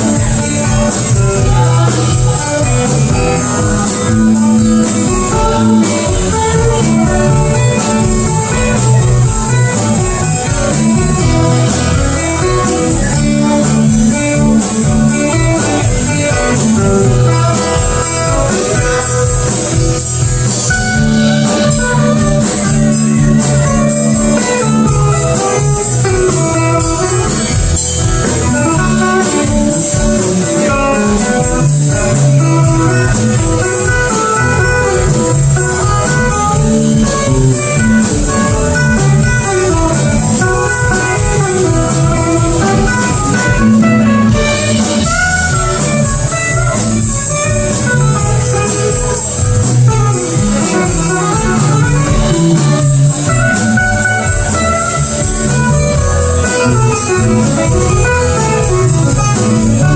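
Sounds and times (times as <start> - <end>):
lead guitar: 0.0 - 59.9
live band playing: 0.0 - 59.9.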